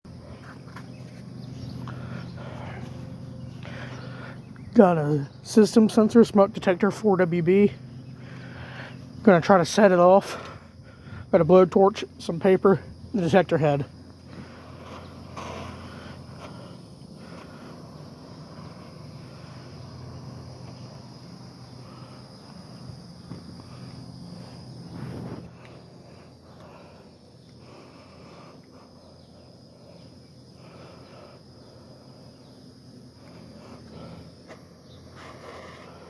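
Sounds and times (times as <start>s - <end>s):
insects chirring: 0.1s - 36.0s.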